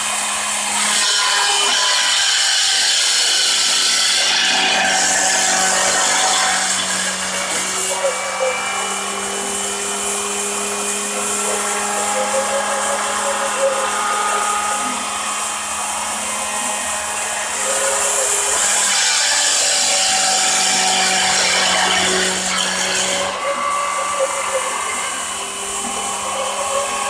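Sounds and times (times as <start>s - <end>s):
power tool motor whining: 0.0s - 27.0s.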